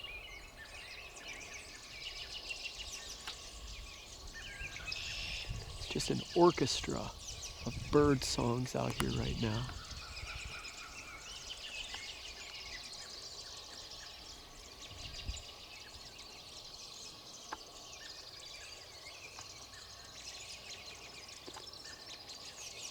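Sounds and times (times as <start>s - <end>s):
songbirds singing and chirping: 0.0s - 22.9s.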